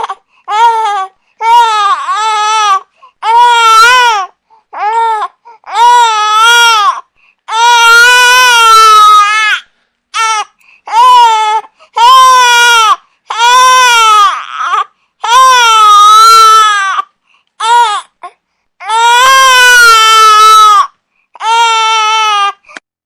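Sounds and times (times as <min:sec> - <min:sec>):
baby crying hard: 0:00.0 - 0:09.6, 0:10.2 - 0:18.2, 0:18.8 - 0:22.6.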